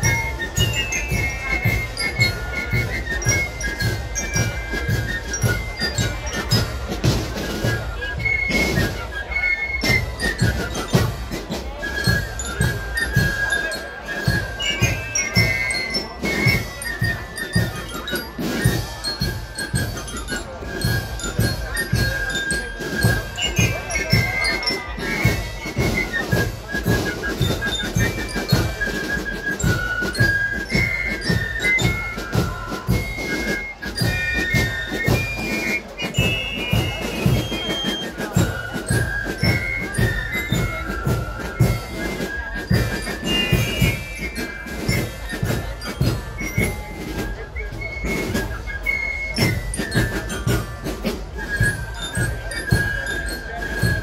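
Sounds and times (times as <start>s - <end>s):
fifes playing melody: 0.0s - 53.7s
bell lyres: 0.0s - 54.0s
snare and bass drums: 0.0s - 54.0s.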